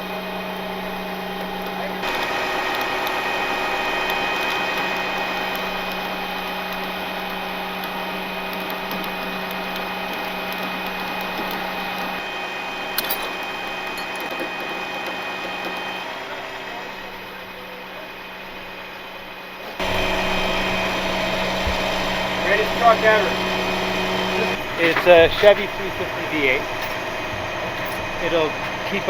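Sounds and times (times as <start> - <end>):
winch and hydraulics whining: 0.0 - 29.0.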